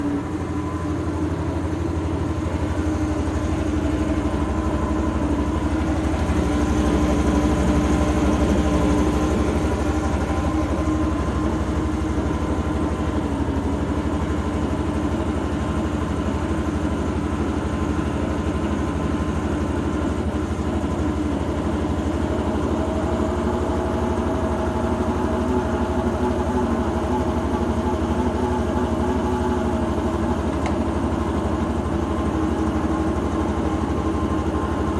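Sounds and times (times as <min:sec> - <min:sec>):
washing machine running: 0:00.0 - 0:34.9.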